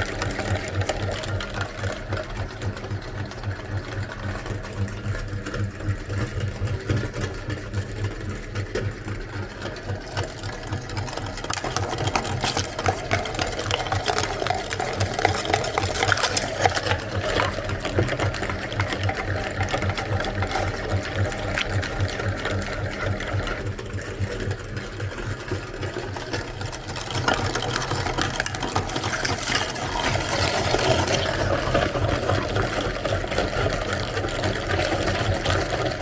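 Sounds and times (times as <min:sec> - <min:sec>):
grinding clicks and crackles: 0:00.0 - 0:36.0
meat grinder motor hum: 0:00.0 - 0:36.0.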